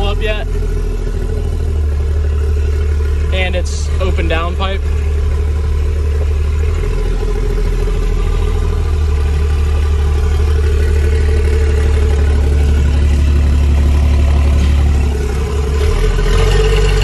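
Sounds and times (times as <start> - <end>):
diesel truck engine drone: 0.0 - 17.0.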